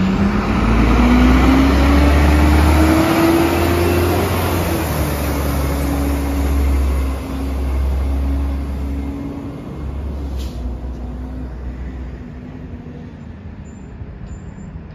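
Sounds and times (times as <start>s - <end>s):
garbage truck engine rumble: 0.0s - 14.9s.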